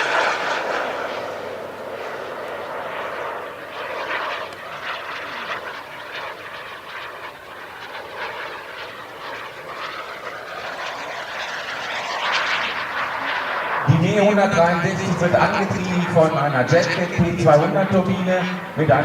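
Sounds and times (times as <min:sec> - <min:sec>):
faint turbine whine: 0:00.0 - 0:19.0
jet turbine rush: 0:00.0 - 0:19.0.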